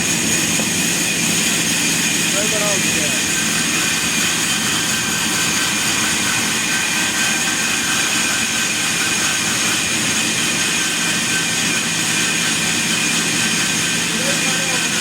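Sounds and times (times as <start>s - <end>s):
high steady whine: 0.0s - 15.0s
sawmill machine running: 0.0s - 15.0s.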